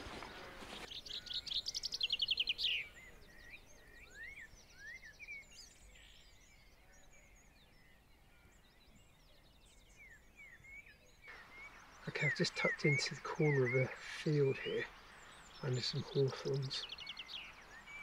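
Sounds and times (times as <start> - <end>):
chaffinch singing: 0.0 - 6.8, 9.5 - 18.0
small birds chirping: 0.0 - 18.0.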